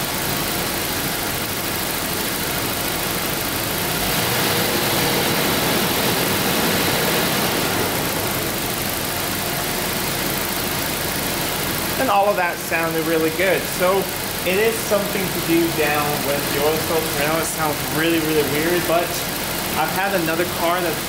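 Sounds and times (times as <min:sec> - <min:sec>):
car engine fast idle: 0:00.0 - 0:21.0.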